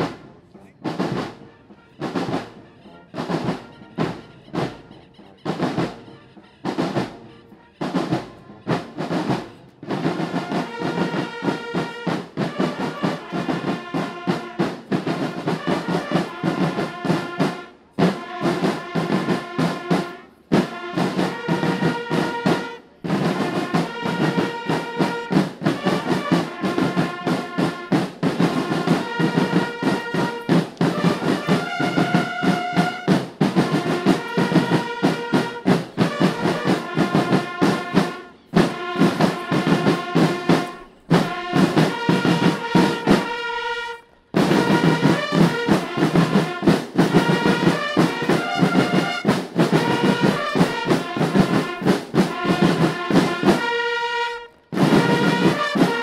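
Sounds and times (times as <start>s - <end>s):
snare drums beating march rhythm: 0.0s - 56.0s
trumpets playing: 0.0s - 56.0s.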